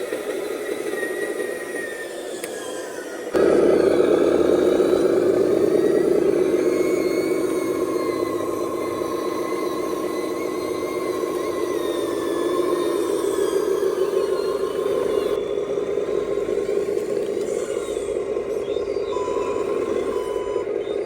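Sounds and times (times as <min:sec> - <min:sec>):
toy truck electric motor whining: 0:00.0 - 0:21.0.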